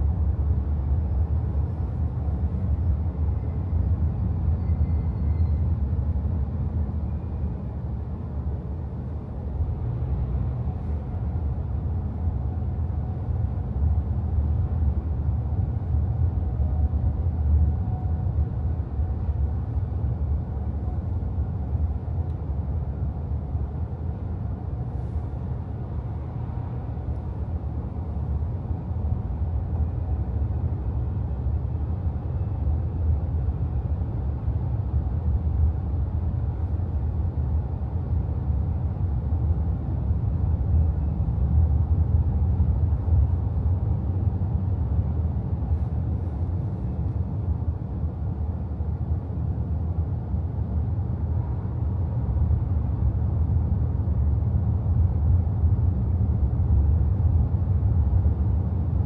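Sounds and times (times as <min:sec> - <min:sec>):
car rumbling through tunnel: 0:00.0 - 0:59.0.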